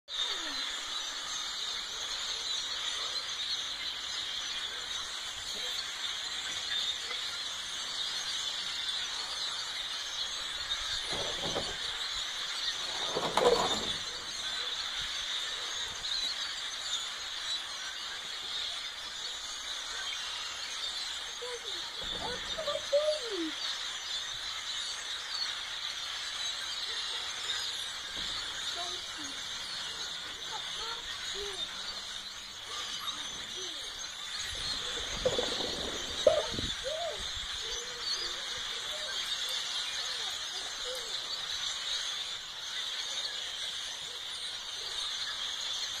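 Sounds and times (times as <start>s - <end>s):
lower gliding bird calls: 0.1s - 25.6s, 26.2s - 46.0s
flock of birds chattering: 0.1s - 46.0s.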